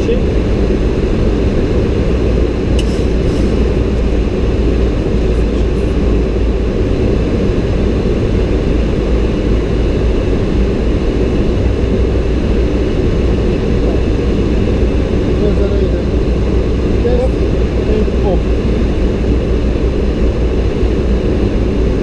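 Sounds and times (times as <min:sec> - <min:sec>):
airflow and engine in cockpit: 0:00.0 - 0:22.0.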